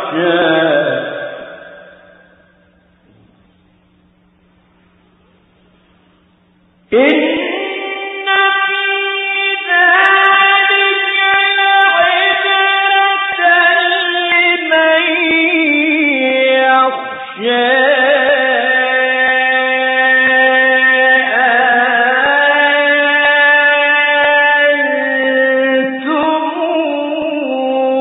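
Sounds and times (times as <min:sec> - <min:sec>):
man chanting melodically: 0:00.0 - 0:03.4, 0:06.9 - 0:28.0.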